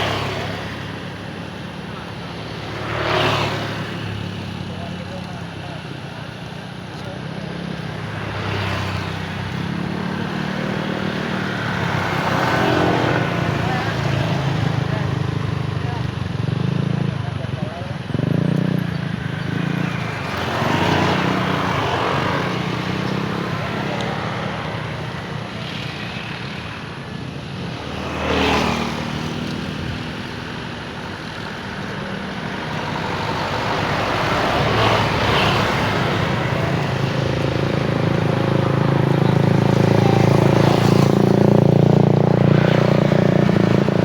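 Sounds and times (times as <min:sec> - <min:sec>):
rumble of traffic and aircraft: 0:00.0 - 0:44.0
vehicle passing: 0:07.0 - 0:26.7, 0:27.7 - 0:44.0.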